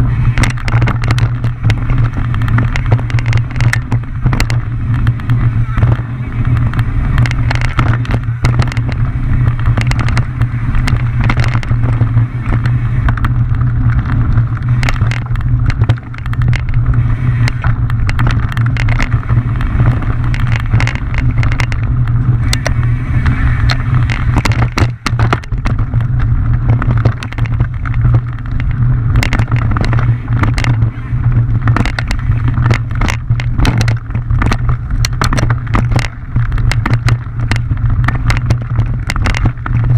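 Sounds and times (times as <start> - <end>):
bike clicks and rattles: 0.0 - 39.9
bike rumbling on rough trail: 0.0 - 39.9.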